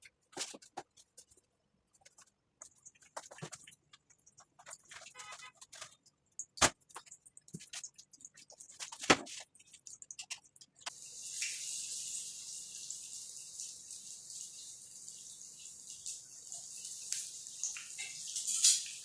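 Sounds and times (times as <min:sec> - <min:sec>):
spring rolls frying in hot oil: 0:00.0 - 0:19.0.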